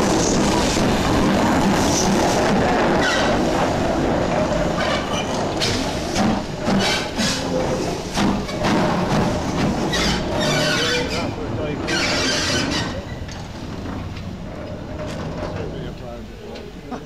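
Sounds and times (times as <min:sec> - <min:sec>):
steam locomotive running: 0:00.0 - 0:17.0.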